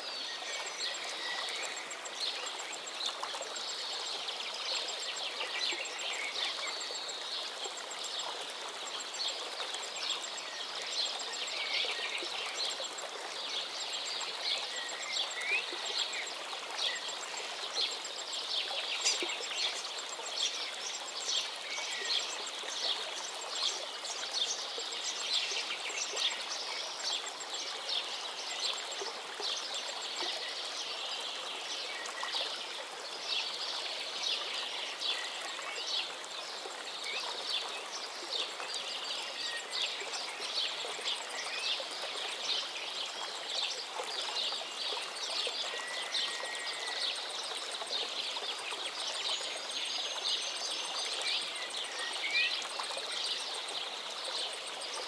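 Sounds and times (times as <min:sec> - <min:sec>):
stream water babbling: 0:00.0 - 0:55.0.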